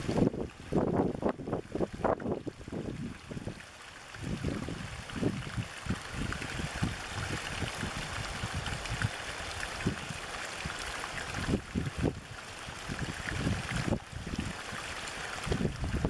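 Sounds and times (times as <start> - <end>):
water pouring into pool: 0.0 - 16.0.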